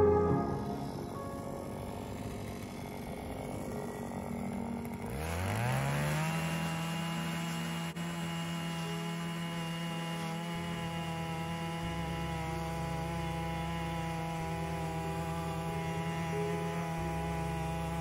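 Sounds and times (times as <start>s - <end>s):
ice auger engine revving: 0.0s - 18.0s
drill bit boring through ice: 1.7s - 18.0s.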